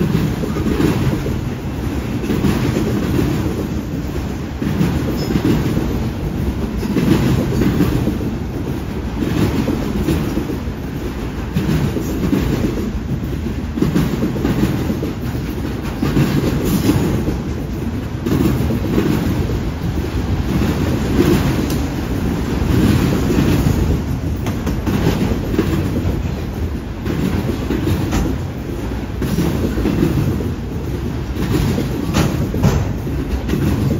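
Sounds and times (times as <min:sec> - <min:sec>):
rhythmic clickety-clack: 0:00.0 - 0:33.9
train wheels rumbling on rail: 0:00.0 - 0:33.9.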